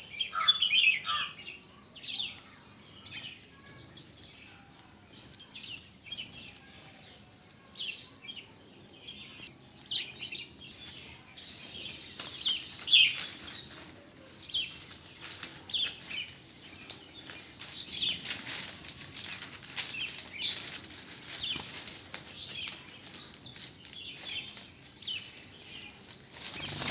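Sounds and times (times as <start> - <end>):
small birds chirping: 0.0 - 26.9
wings fluttering: 2.4 - 26.9.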